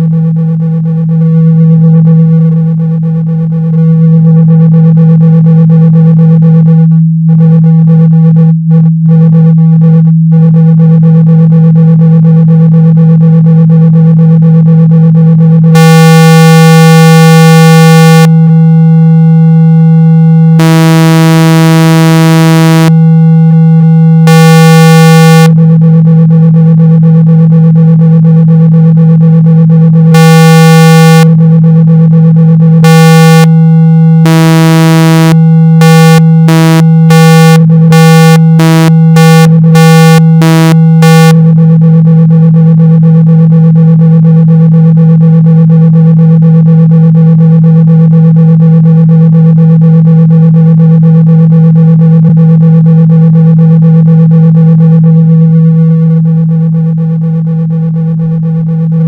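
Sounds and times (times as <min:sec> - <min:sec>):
steady low synthesized hum: 0:00.0 - 0:59.0.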